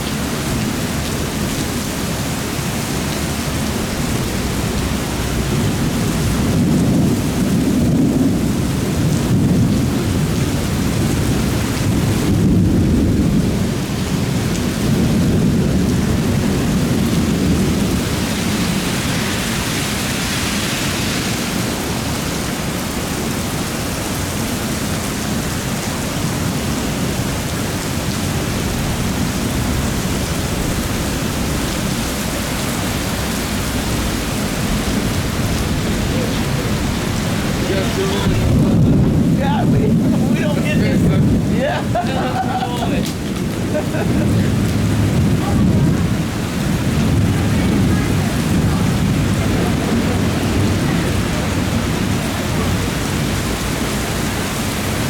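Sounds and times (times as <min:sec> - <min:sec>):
heavy rain pouring: 0:00.0 - 0:55.0
thunder rumbling: 0:00.0 - 0:55.0.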